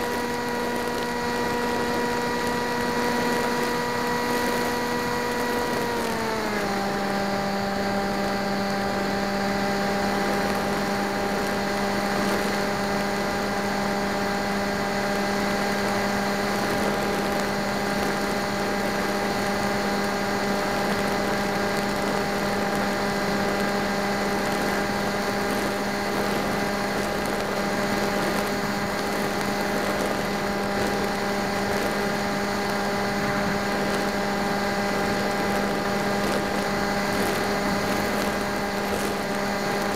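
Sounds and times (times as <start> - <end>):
model aircraft motor hum: 0.0 - 39.9.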